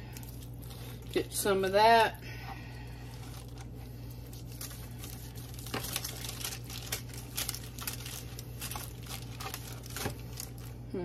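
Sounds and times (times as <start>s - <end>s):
aluminium foil crinkling: 0.0s - 10.8s
steady low hum: 0.0s - 11.0s.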